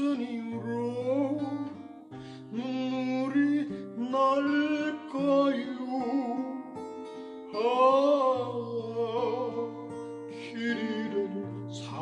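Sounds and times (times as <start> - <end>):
fingerpicked acoustic guitar: 0.0 - 12.0
person singing a slow ballad: 0.0 - 12.0.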